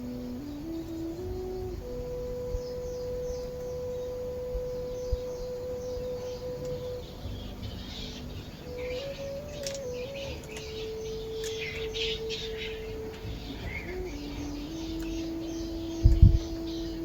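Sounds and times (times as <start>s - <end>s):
birds chirping: 0.0s - 17.0s
calm background music: 0.0s - 17.0s.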